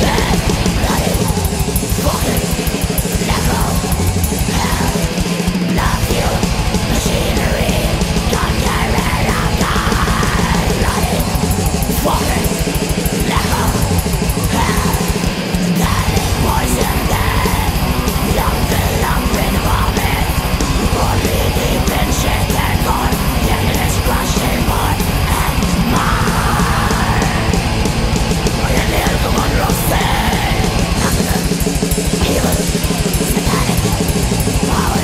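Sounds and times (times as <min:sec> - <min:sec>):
black metal band playing: 0:00.0 - 0:35.0
harsh screamed vocals: 0:00.0 - 0:35.0.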